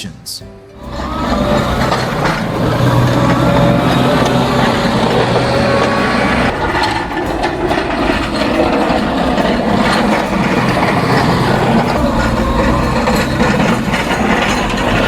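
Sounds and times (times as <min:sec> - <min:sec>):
diesel engine droning under load: 0:00.8 - 0:15.0
metallic clattering: 0:00.8 - 0:15.0.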